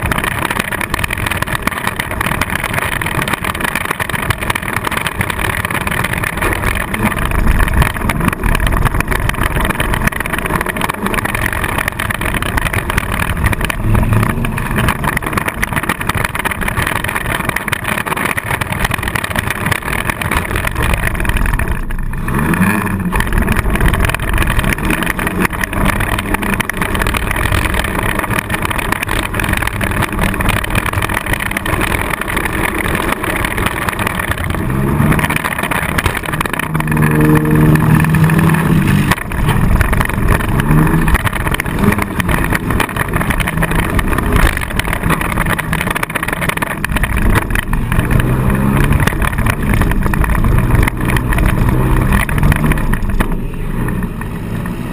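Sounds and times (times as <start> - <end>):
car engine running rough: 0.0 - 54.9.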